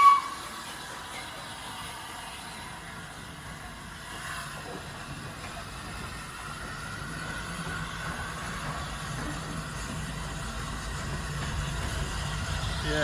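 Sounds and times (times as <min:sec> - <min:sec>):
locomotive rumble: 0:00.0 - 0:13.0.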